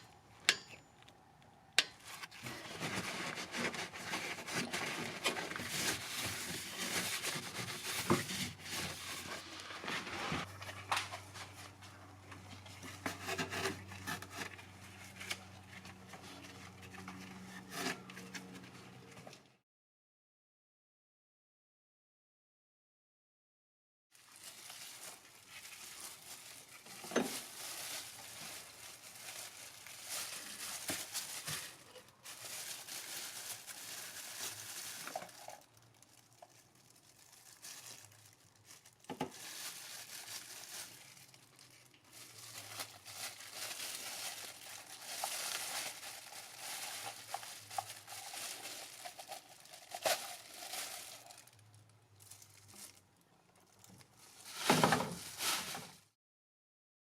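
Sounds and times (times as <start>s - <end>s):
rustling and crinkling handling: 0.0s - 19.5s, 24.1s - 56.2s.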